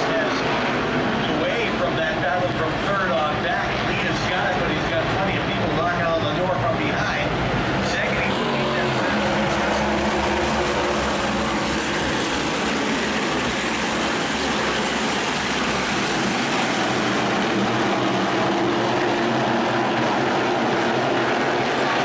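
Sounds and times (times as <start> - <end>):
race car engines roaring: 0.0 - 22.0.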